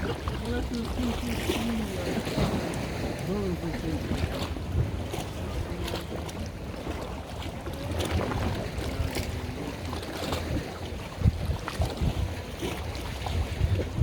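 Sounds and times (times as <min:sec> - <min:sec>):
boat engine rumble: 0:00.0 - 0:14.0
wind buffeting microphone: 0:00.0 - 0:14.0.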